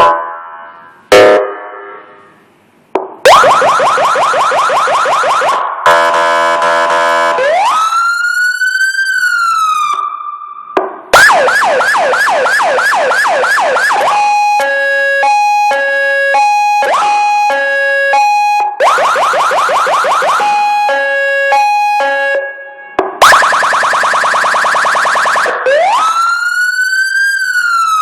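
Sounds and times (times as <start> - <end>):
siren wail: 0.0 - 1.5, 3.2 - 28.0
siren yelp: 0.0 - 1.5, 3.2 - 28.0
two-tone hi-lo siren: 0.0 - 2.4, 3.2 - 28.0.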